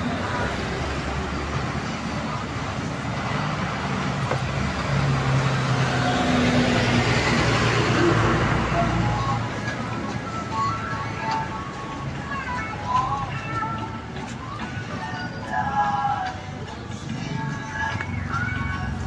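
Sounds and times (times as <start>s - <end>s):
bus driving past: 0.0s - 19.0s
street traffic: 0.0s - 19.0s.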